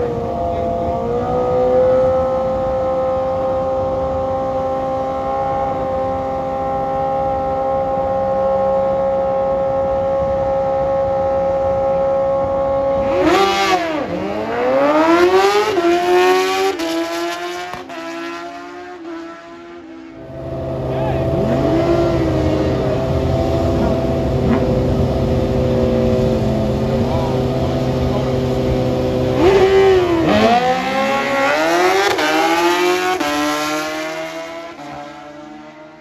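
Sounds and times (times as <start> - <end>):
motorcycle engines revving: 0.0 - 36.0
motorcycles accelerating through gears: 0.0 - 36.0.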